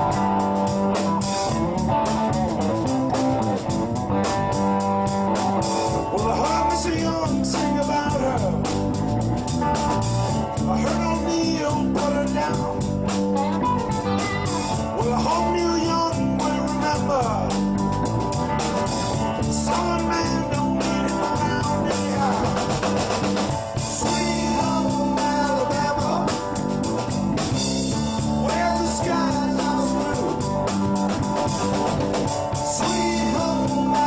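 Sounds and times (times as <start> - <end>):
bass and drum beat: 0.0 - 34.0
electric guitar lead with bending notes: 0.0 - 34.0.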